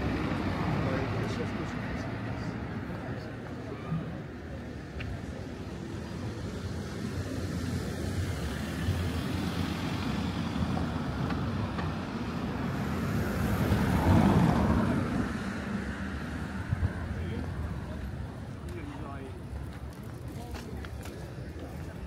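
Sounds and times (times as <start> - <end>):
car traffic driving past: 0.0 - 20.0.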